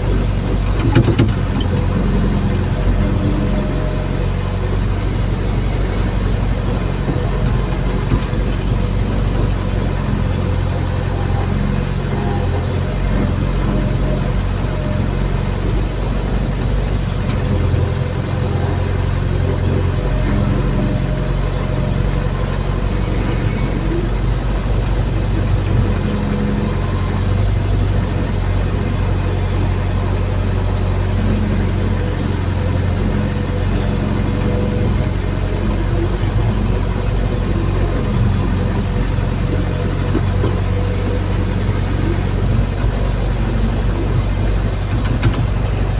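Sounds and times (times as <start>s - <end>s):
excavator diesel engine drone: 0.0s - 45.9s.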